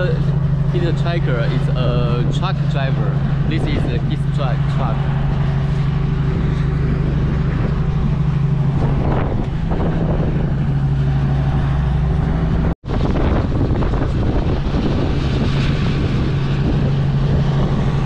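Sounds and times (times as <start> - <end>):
truck engine drone: 0.0 - 18.0
wind rush on microphone: 0.0 - 18.0.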